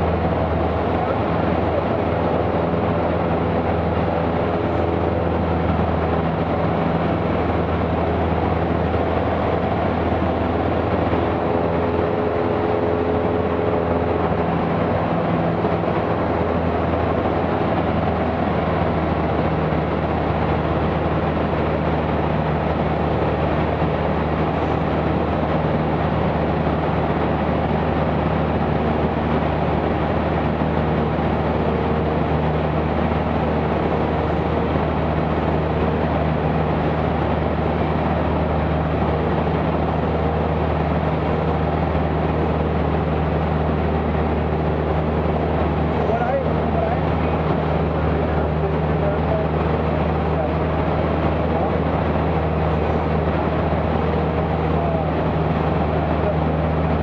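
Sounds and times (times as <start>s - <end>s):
aircraft engine droning: 0.0s - 57.0s.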